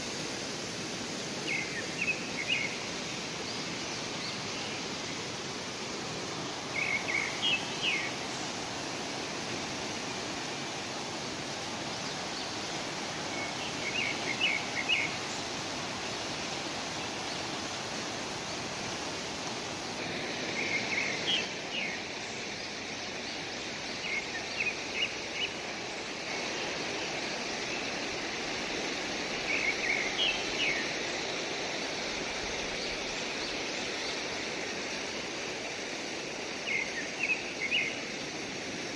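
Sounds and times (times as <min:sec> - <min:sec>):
fast river rushing: 0:00.0 - 0:38.9.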